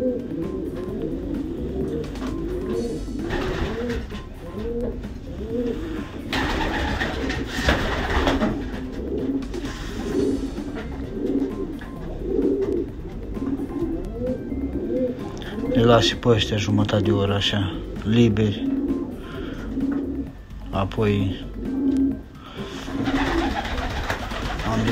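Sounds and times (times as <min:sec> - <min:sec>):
pigeons cooing: 0:00.0 - 0:24.9.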